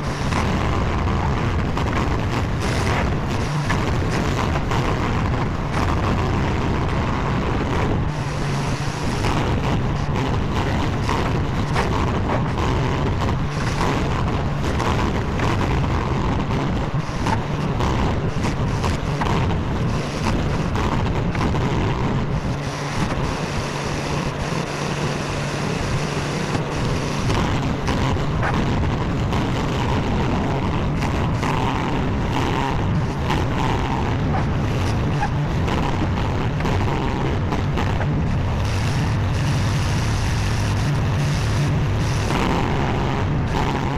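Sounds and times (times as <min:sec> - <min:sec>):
skid steer engine running: 0:00.0 - 0:43.9.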